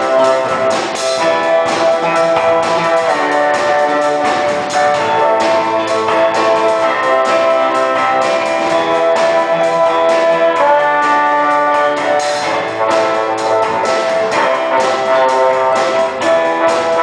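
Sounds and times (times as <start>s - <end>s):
brass horns playing chords: 0.0s - 17.0s
steady beat: 0.0s - 17.0s.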